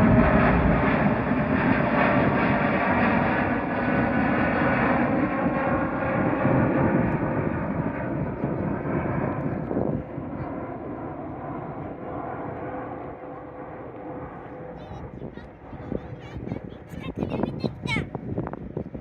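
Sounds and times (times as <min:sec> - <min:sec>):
jet airliner engines passing: 0:00.0 - 0:19.0.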